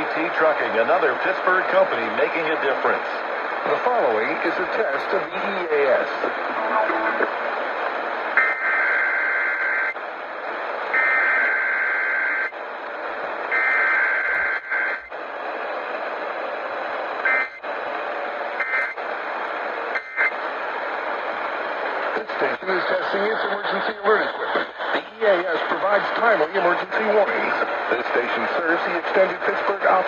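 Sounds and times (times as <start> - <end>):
radio reception hiss: 0.0 - 30.0.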